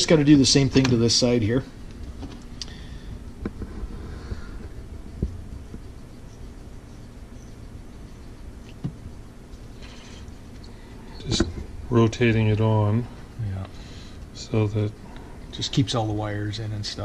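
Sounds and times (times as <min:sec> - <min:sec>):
low steady rumble: 0:00.0 - 0:17.0
quiet handling sounds: 0:00.0 - 0:17.0.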